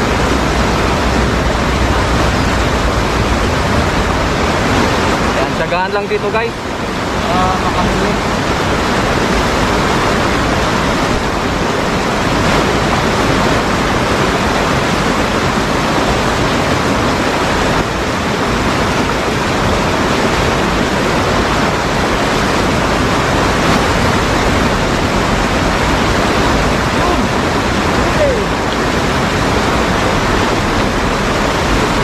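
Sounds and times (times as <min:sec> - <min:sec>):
river whitewater rushing: 0:00.0 - 0:32.0.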